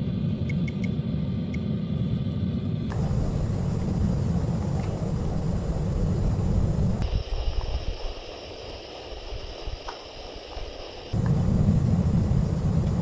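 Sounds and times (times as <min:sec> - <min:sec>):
wind buffeting microphone: 0:01.9 - 0:13.0.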